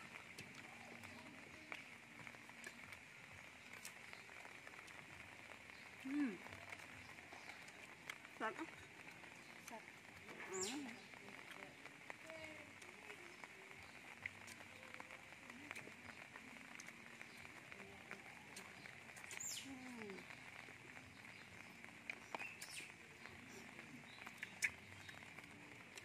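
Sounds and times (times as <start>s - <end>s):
clicks and rustles of eating: 0.1s - 26.0s.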